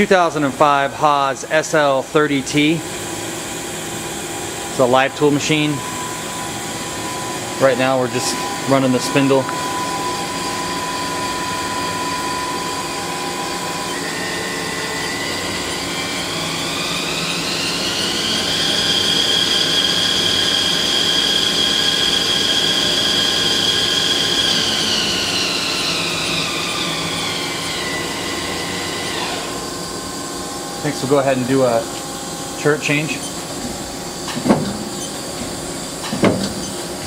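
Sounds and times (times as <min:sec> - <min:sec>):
lathe spindle whine: 0:00.0 - 0:37.0.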